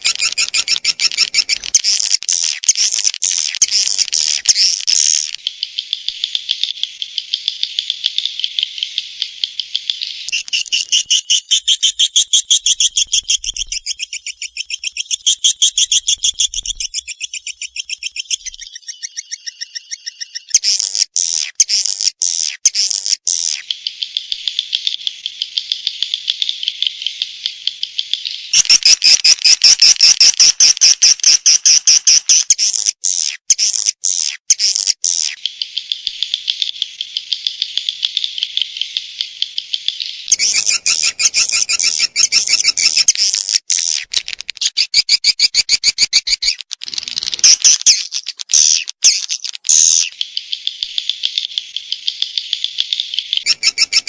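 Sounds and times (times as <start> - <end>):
recorded swiftlet chirping trills: 0.0 - 54.0.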